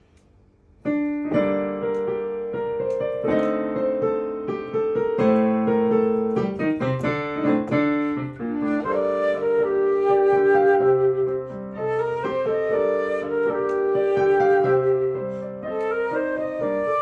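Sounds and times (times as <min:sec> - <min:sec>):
piano chords and melody: 0:00.8 - 0:17.0.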